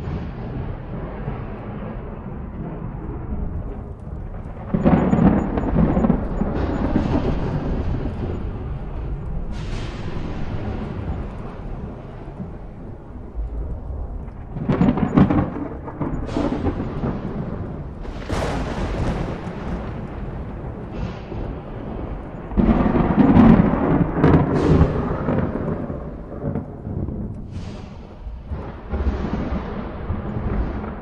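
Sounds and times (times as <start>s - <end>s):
thunder rumbling and cracking: 0.0s - 31.0s.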